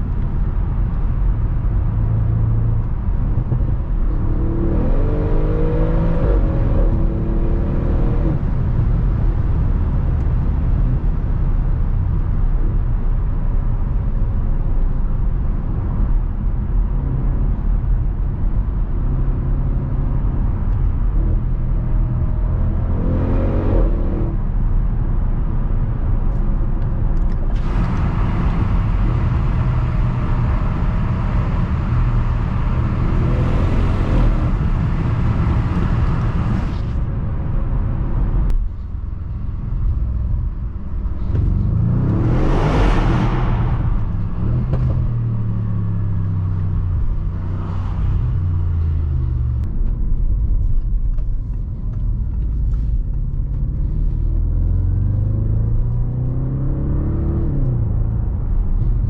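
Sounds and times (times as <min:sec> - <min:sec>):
car engine drone: 0:00.0 - 0:59.0
road noise: 0:00.0 - 0:59.0.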